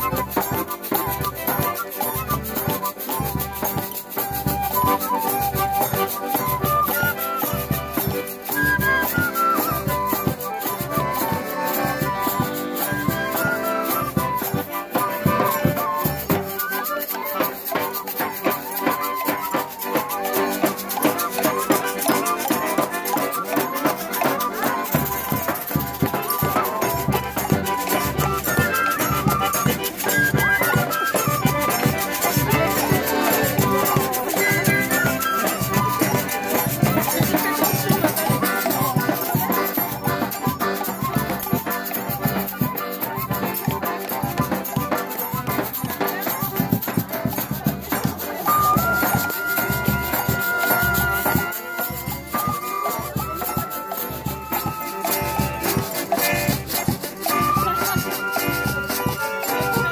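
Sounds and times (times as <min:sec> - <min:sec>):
accordion: 0:00.0 - 0:59.9
wooden fifes playing melody: 0:00.0 - 0:59.9.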